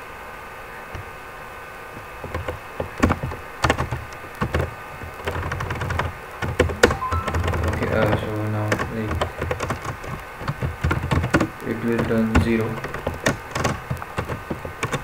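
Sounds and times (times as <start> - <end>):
faint background hum: 0.0 - 15.0
computer keyboard typing: 2.2 - 15.0.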